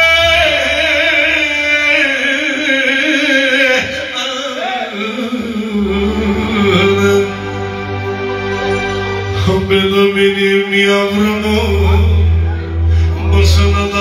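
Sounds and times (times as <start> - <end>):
man singing into a microphone: 0.0 - 8.0, 9.3 - 14.0.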